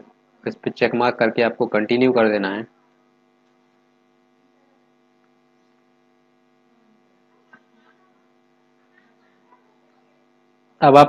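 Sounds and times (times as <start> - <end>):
faint mains hum: 0.0 - 11.0.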